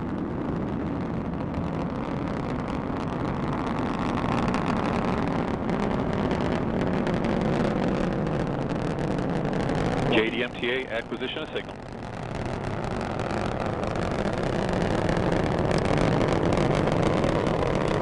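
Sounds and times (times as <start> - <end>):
rocket engines rumbling: 0.1 - 18.0.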